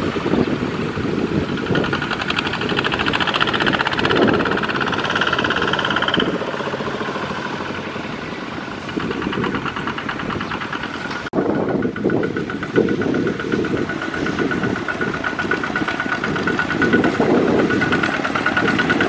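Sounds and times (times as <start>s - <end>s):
diesel walking tractors knocking: 0.0s - 19.0s.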